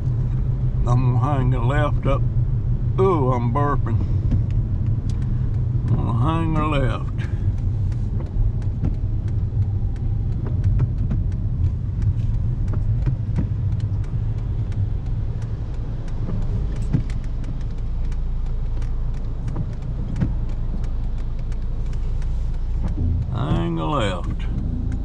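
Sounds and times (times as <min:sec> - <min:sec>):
road and engine rumble: 0:00.0 - 0:25.0
faint light ticks and clicks: 0:03.9 - 0:25.0.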